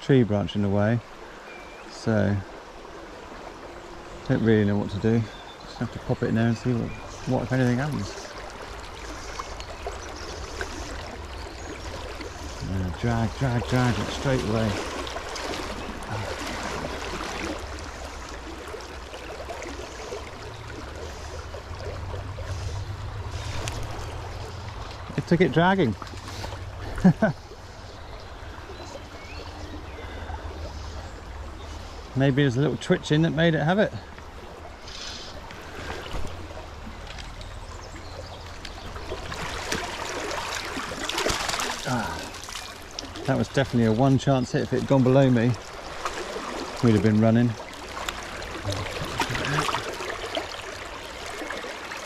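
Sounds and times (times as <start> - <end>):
river water trickling over stones: 0.0 - 52.0.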